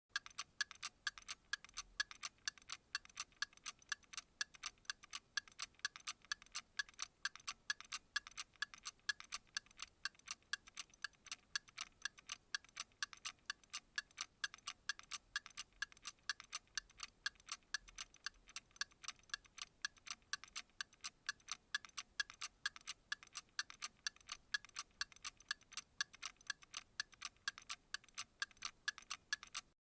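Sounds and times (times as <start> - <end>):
alarm clock ticking: 0.2 - 29.7.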